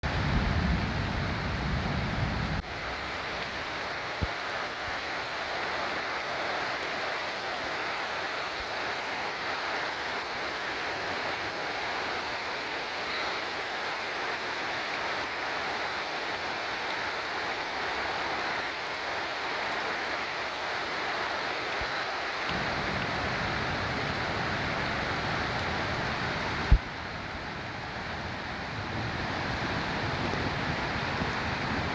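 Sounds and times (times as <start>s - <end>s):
pouring rain: 0.0s - 31.9s
rushing stream: 0.0s - 31.9s.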